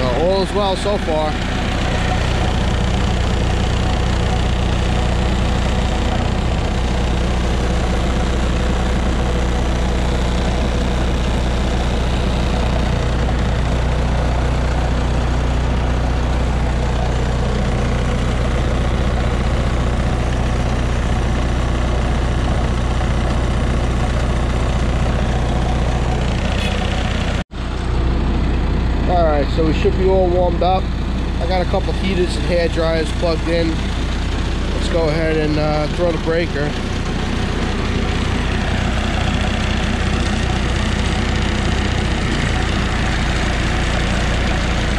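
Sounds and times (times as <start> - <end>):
diesel generator running: 0.0 - 44.9.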